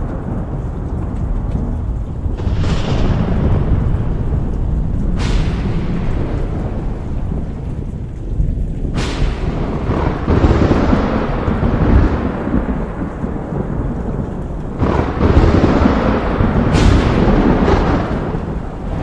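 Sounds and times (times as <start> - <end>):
sharp thunder cracks: 0.0 - 19.0
steady rain: 0.0 - 19.0
thunder rumbling: 0.0 - 19.0.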